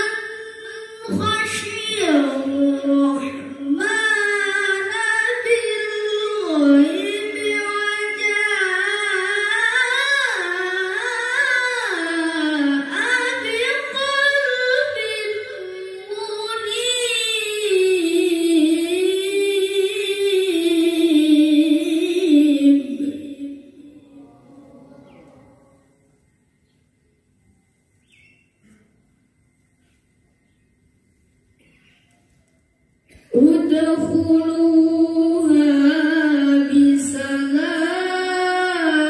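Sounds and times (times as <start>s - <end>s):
boy reciting melodically: 0.0s - 26.0s, 33.1s - 39.0s.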